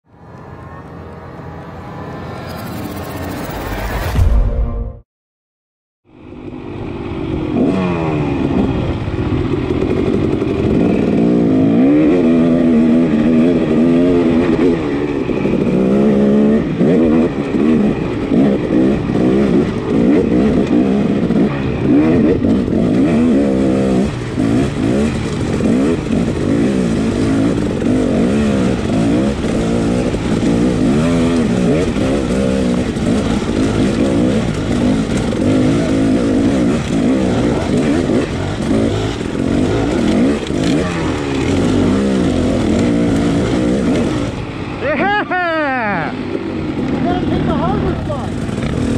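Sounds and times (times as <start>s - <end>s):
dirt bike engine revving: 7.2s - 48.9s.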